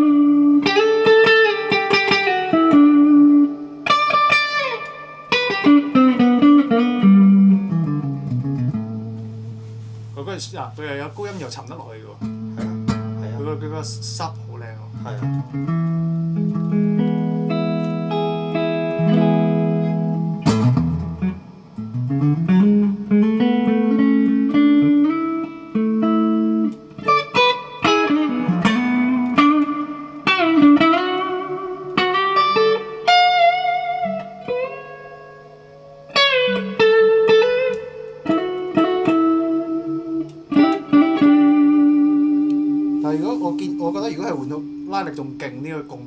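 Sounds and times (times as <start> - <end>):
electric guitar through an amp: 0.0 - 46.0.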